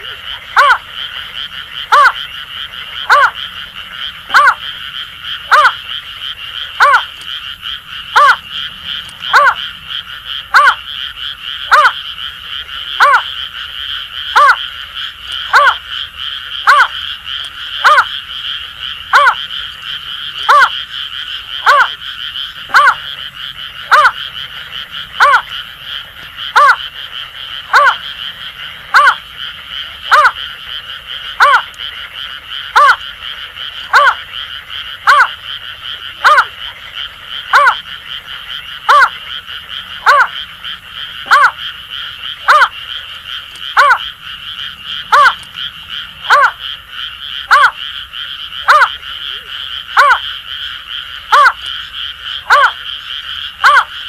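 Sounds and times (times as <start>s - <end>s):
frogs chorus: 0.0s - 54.0s.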